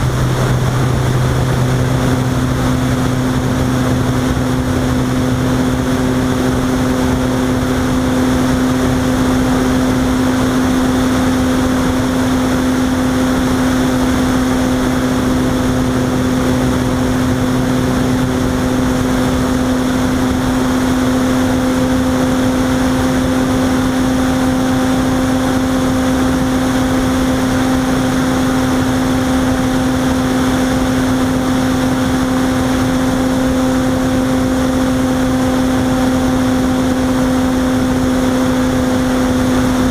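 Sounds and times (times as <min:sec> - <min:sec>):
rush of air: 0:00.0 - 0:39.9
steady motor hum: 0:00.0 - 0:39.9.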